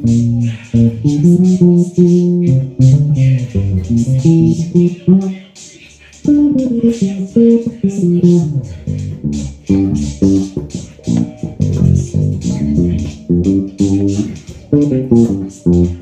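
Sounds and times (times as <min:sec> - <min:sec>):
electric bass guitar: 0:00.0 - 0:05.6, 0:06.2 - 0:16.0
hissy ticks beat: 0:00.0 - 0:16.0.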